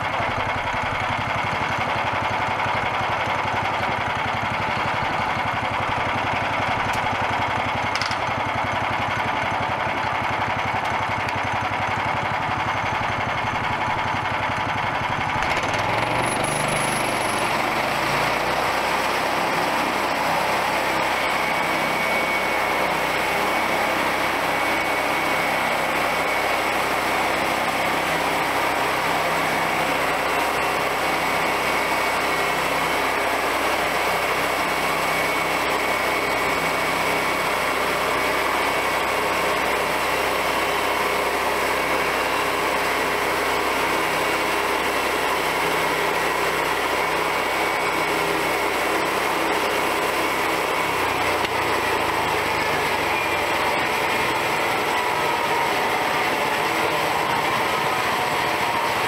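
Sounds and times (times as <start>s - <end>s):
small gasoline engine running: 0.0s - 59.0s
band saw blade whine: 10.6s - 59.0s.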